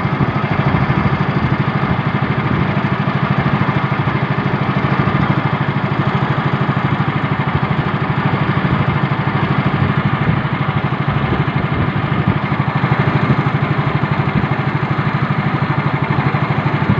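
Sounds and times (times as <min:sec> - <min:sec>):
small engine running steadily: 0:00.0 - 0:16.9.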